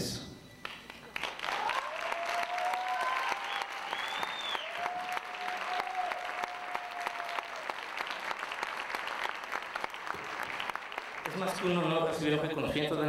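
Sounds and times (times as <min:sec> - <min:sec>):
audience applauding: 0:00.6 - 0:12.5.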